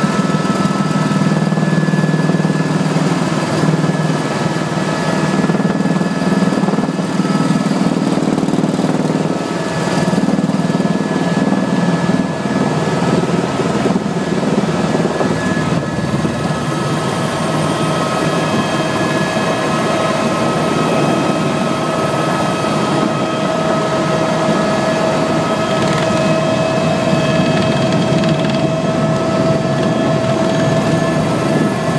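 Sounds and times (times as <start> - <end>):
helicopter engine and rotor drone: 0.0 - 31.9.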